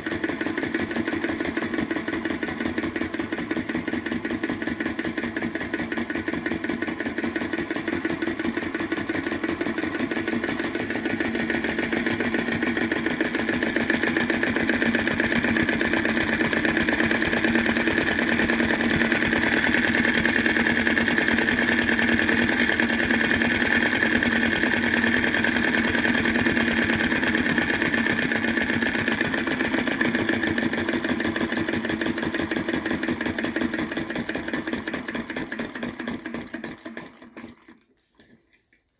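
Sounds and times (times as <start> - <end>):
model engine clatter: 0.0 - 38.5.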